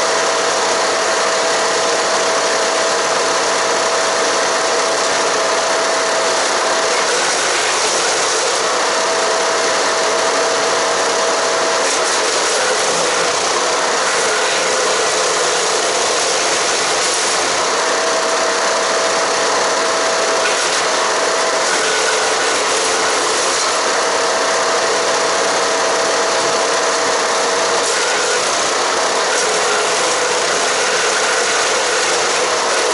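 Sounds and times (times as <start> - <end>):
wood chipper grinding branches: 0.0 - 32.9.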